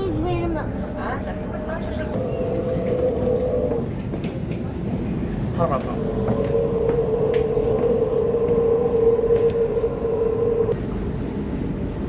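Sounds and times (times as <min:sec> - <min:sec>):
electric train rumbling: 0:00.0 - 0:12.0
steady train whine: 0:00.0 - 0:12.0
train rattles: 0:00.0 - 0:12.0.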